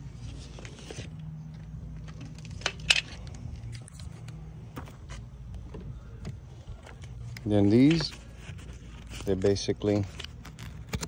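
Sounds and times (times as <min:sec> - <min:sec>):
paper and tape rustling: 0:00.0 - 0:11.0.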